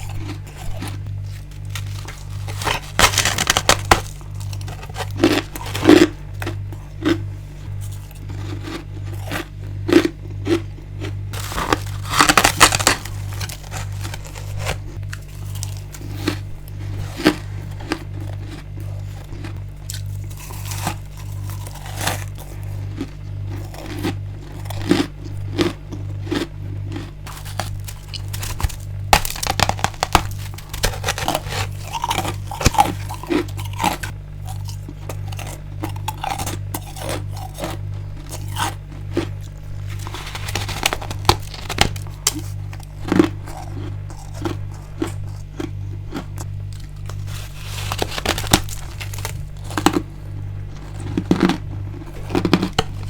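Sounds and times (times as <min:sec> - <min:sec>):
chewing crunchy ice: 0:00.0 - 0:53.0
low pulsing hum: 0:00.0 - 0:53.0.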